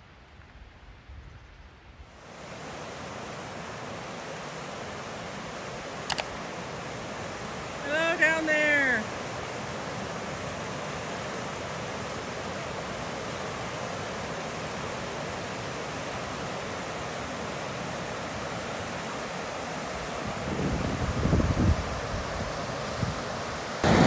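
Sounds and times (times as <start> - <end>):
fast-flowing water rushing: 2.2 - 24.0.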